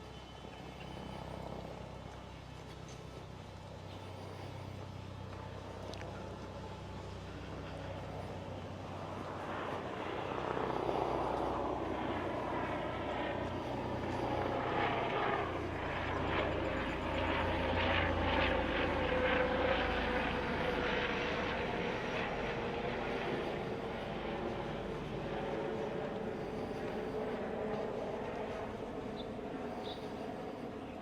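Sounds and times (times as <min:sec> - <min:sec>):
aircraft engine drone: 0:00.0 - 0:31.0.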